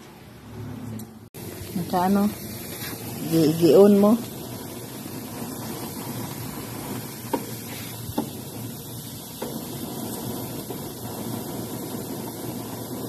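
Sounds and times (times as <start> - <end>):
chicken sizzling on a grill: 1.4 - 13.0.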